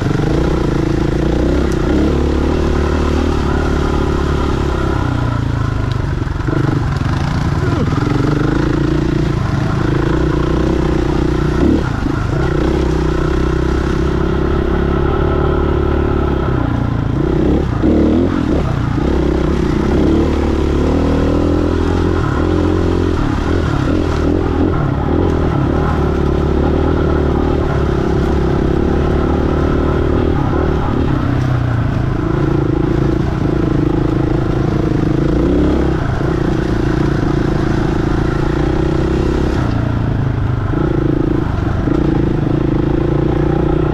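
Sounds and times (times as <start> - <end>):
dirt bike engine running: 0.0 - 43.9.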